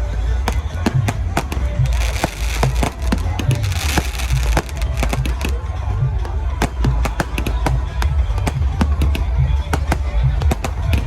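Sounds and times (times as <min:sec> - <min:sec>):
fireworks popping and banging: 0:00.0 - 0:11.0
music with heavy bass beat: 0:00.0 - 0:11.0.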